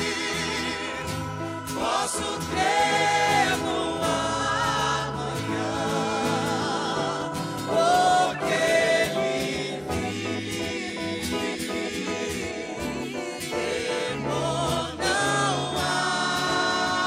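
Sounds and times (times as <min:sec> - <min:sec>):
gospel vocal group singing: 0:00.0 - 0:17.0.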